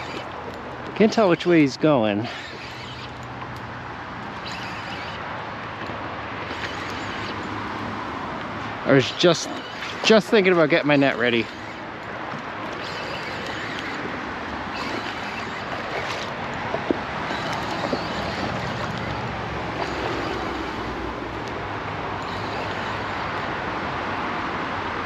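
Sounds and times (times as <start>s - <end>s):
highway traffic: 0.0s - 25.0s.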